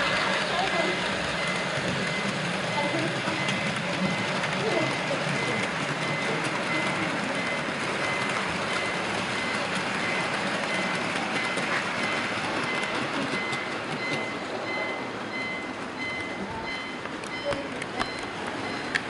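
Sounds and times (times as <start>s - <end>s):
small metal wheels rattling on track: 0.0s - 19.0s.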